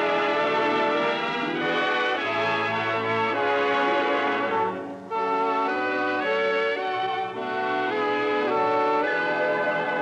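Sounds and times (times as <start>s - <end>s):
orchestral music with brass: 0.0s - 10.0s.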